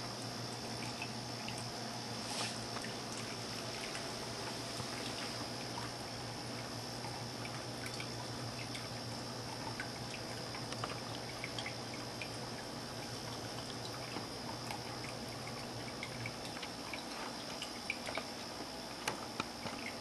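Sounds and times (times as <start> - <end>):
low pump hum: 0.0 - 20.0
small irregular ticks: 0.0 - 20.0
water trickling in fountain: 0.0 - 20.0.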